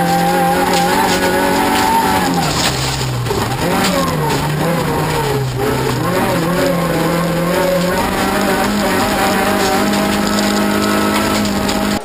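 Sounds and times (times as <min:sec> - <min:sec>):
car engine at high revs: 0:00.0 - 0:12.0
tyres on gravel: 0:00.0 - 0:12.0.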